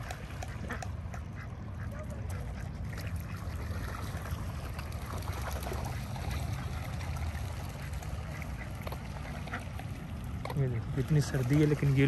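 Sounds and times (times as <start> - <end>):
water birds calling: 0.0 - 12.0.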